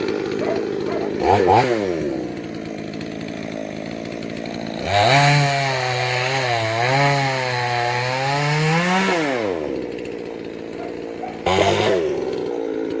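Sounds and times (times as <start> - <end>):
chainsaw revving and idling: 0.0 - 13.0.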